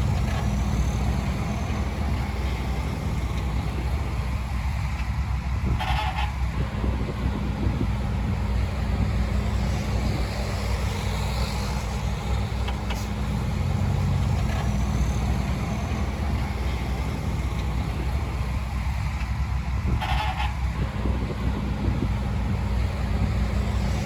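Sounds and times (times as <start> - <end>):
large diesel engine running: 0.0 - 24.0.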